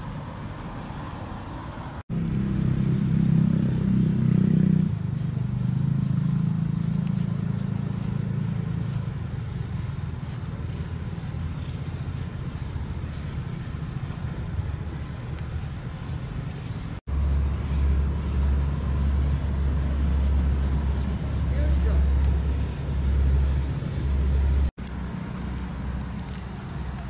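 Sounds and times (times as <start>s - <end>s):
engine humming: 0.0s - 27.0s
faint rustling in grass: 0.0s - 27.0s.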